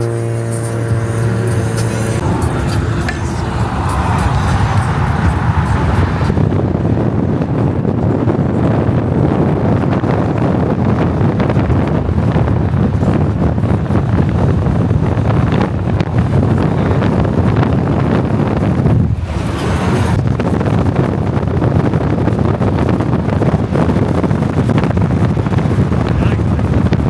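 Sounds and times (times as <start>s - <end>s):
car driving at highway speed: 0.0s - 27.0s
wind buffeting microphone: 0.0s - 27.0s.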